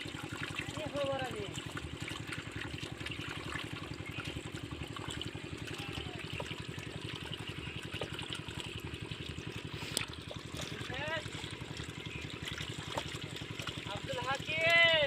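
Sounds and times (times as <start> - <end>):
small engine running: 0.0 - 15.0
water trickling: 0.0 - 15.0.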